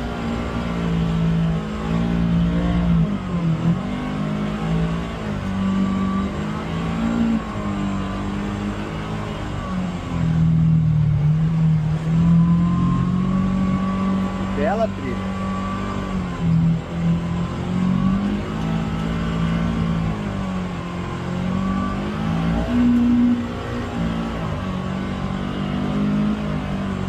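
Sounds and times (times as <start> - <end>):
vehicle engine running under load: 0.0 - 27.0.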